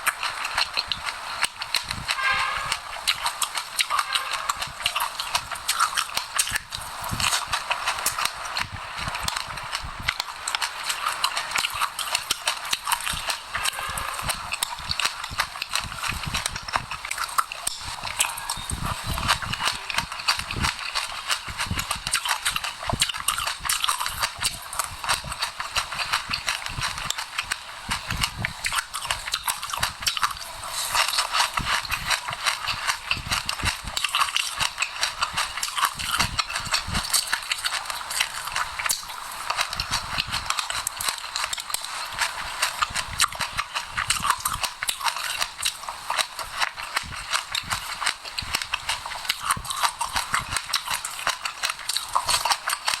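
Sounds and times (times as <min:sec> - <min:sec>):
crunchy chewing of seeds: 0:00.0 - 0:53.0.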